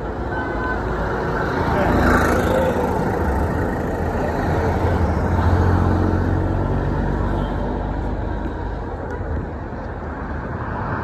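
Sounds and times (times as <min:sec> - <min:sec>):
passing vehicle engines rumbling: 0:00.0 - 0:11.0.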